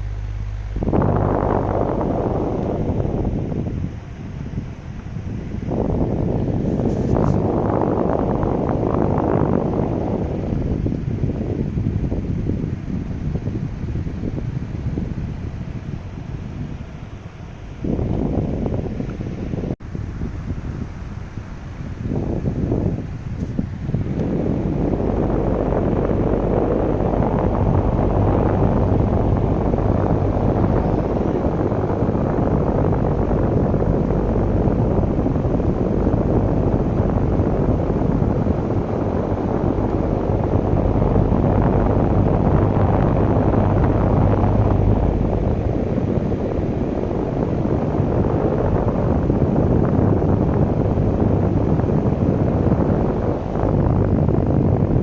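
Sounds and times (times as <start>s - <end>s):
low steady hum: 0.0s - 55.0s
wind buffeting microphone: 0.0s - 55.0s.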